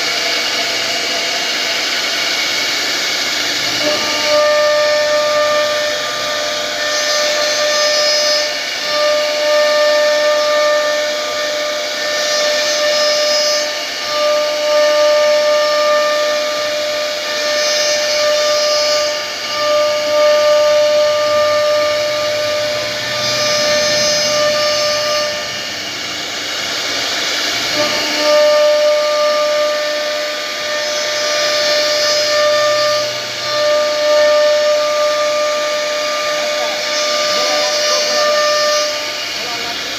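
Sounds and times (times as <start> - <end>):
high-pitched machine whine: 0.0 - 39.9.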